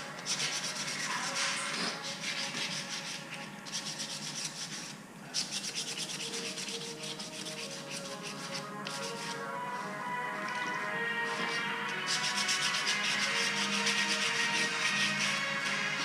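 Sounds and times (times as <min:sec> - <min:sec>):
sandpaper rubbing strokes: 0:00.2 - 0:10.0, 0:11.2 - 0:16.0.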